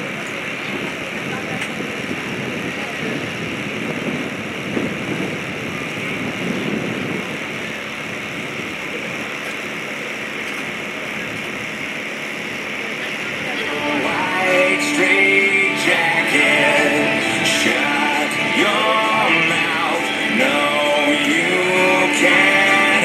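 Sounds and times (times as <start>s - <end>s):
airplane engine drone: 0.0s - 23.0s.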